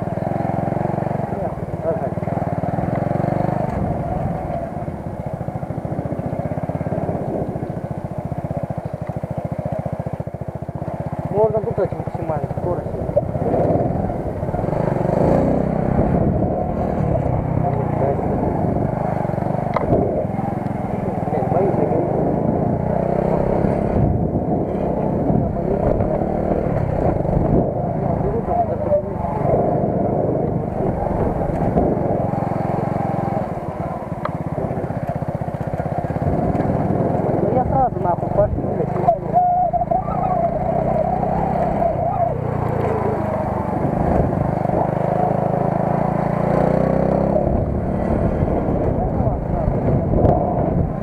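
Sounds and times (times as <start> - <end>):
road noise: 0.0 - 51.0
vehicle engine running: 0.0 - 51.0.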